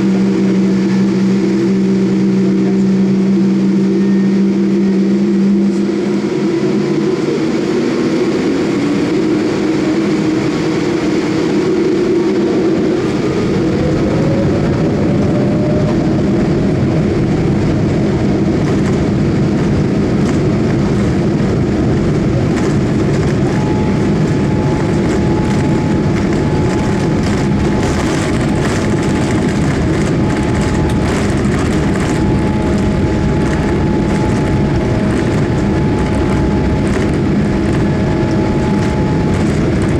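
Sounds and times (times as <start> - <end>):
jet engine and airflow noise: 0.0 - 39.9.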